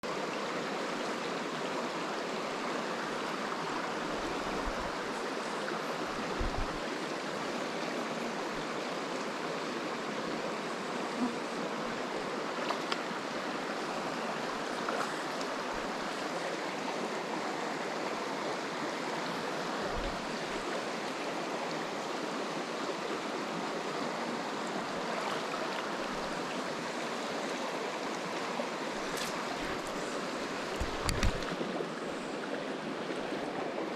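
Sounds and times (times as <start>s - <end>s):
stream water flowing: 0.0s - 33.9s.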